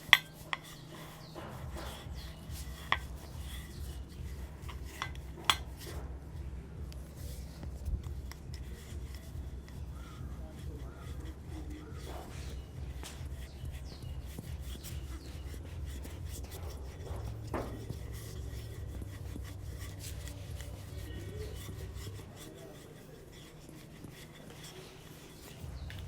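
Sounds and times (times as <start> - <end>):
hands rubbing with crackles: 0.0 - 26.0.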